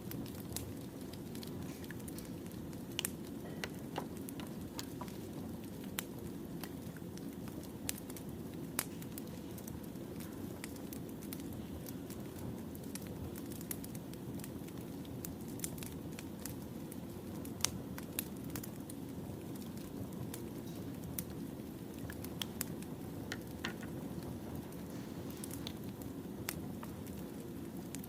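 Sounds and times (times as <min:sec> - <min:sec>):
firewood popping and crackling: 0:00.0 - 0:28.0
wood fire rumbling: 0:00.0 - 0:28.0.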